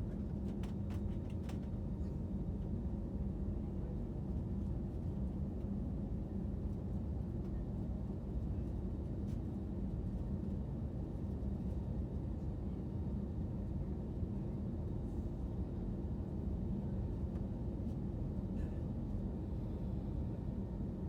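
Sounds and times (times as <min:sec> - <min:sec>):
jet cabin engine rumble: 0:00.0 - 0:21.0.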